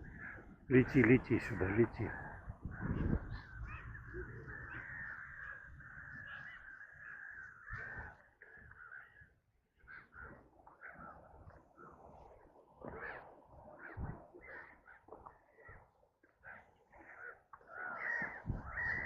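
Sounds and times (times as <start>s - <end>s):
birds cawing: 0.0s - 19.0s.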